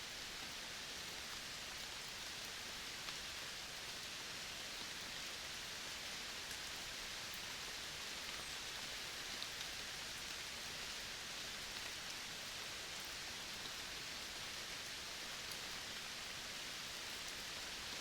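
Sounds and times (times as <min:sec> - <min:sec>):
forest ambience hiss: 0:00.0 - 0:18.0.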